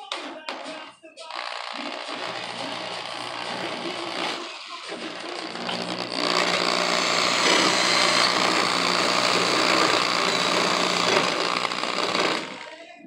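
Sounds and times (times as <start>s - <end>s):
electric drill drilling metal: 1.3s - 12.8s.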